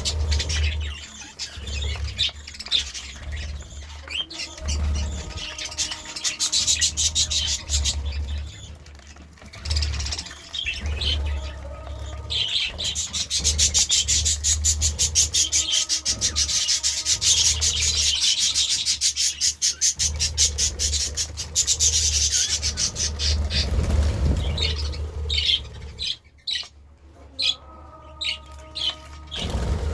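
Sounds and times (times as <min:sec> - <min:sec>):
budgerigars chirping and chattering: 0:00.0 - 0:29.9.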